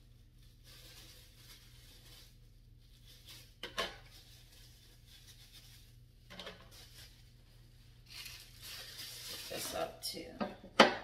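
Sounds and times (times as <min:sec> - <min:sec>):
bubble wrap rustling and crinkling: 0:00.0 - 0:10.4.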